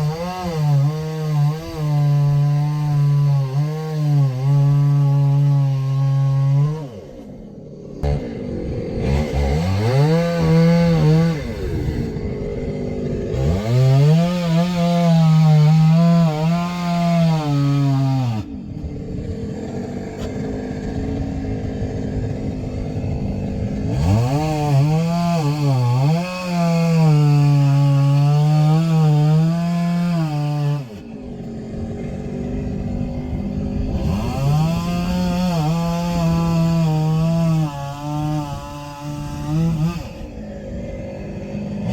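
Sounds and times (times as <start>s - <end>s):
chainsaw cutting logs: 0.0s - 41.9s.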